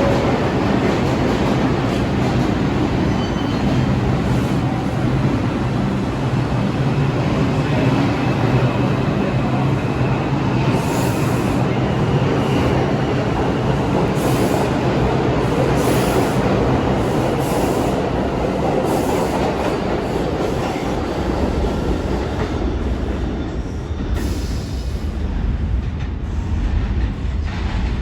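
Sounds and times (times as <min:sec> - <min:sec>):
subway train rumbling on rails: 0:00.0 - 0:28.0.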